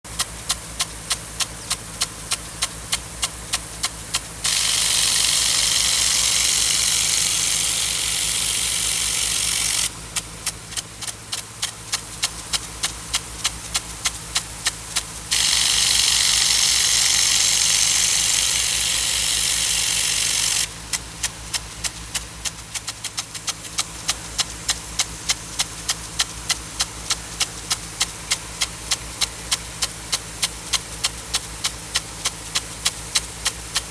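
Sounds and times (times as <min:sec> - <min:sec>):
hiss of water spray: 0:00.1 - 0:33.9
sprinkler drive arm ticking: 0:00.1 - 0:33.9
steady low hum: 0:00.1 - 0:33.9.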